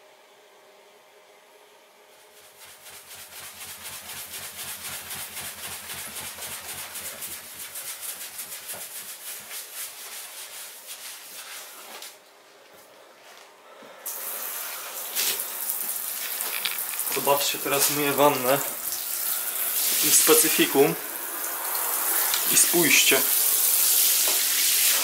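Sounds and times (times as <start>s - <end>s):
hand scrubbing wet bathtub: 2.2s - 12.2s, 14.1s - 25.0s.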